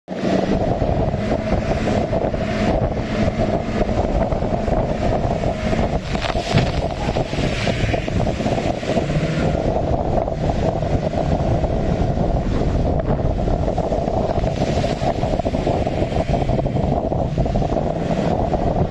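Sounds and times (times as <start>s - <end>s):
motorboat engine drone: 0.1s - 18.9s
water rushing and splashing: 0.1s - 18.9s
wind buffeting microphone: 0.1s - 18.9s.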